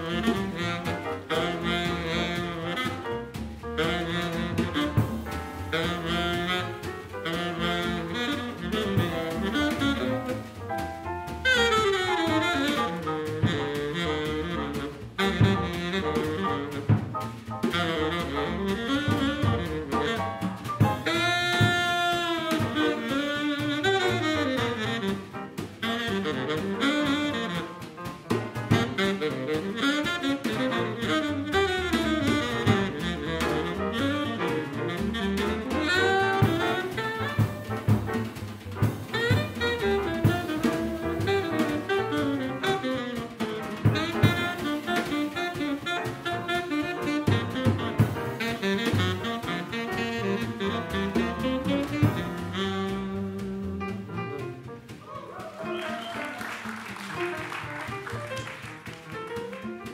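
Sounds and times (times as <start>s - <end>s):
saxophone: 0.0s - 59.9s
swing jazz band playing: 0.0s - 59.9s.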